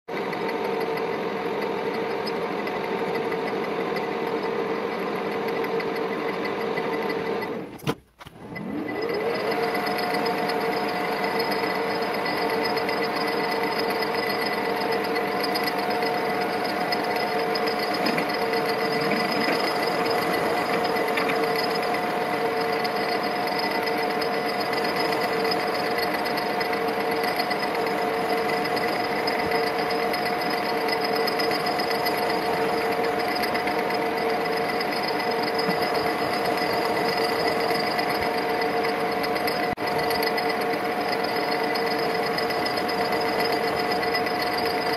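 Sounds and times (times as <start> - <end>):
metal lathe whine: 0.1 - 44.9.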